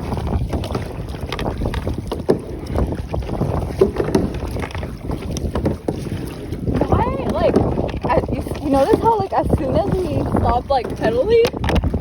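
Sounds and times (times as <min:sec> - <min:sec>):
water slapping against hull: 0:00.0 - 0:12.0
wind buffeting microphone: 0:00.0 - 0:12.0.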